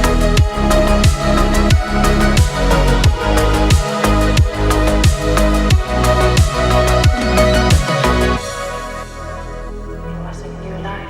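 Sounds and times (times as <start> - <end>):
held chords: 0.0 - 11.0
music with deep bass hits: 0.0 - 11.0.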